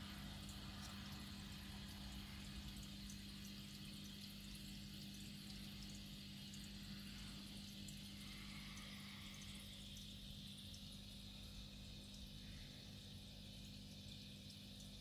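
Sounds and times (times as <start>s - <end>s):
aquarium air bubbling: 0.0s - 15.0s
steady low hum: 0.0s - 15.0s.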